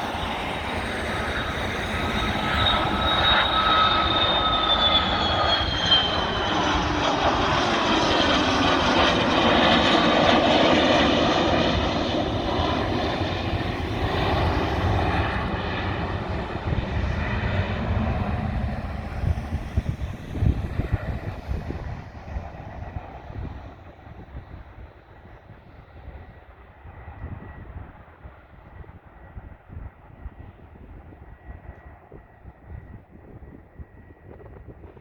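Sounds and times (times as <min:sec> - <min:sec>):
jet engines whining and roaring: 0:00.0 - 0:35.0.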